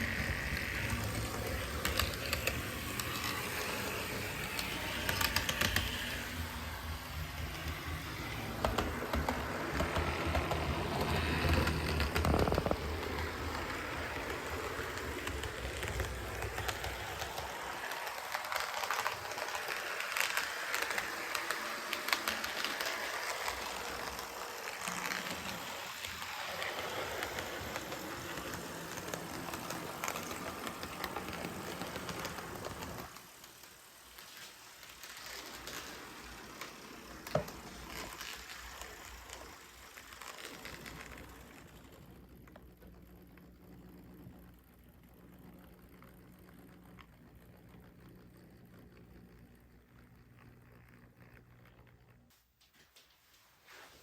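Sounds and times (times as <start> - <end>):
model train wheels and gears whirring: 0.0 - 54.0.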